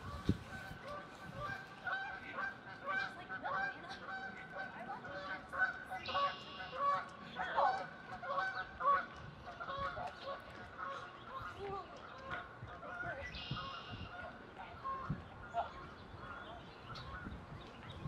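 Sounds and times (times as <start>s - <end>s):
geese honking: 0.0s - 17.3s.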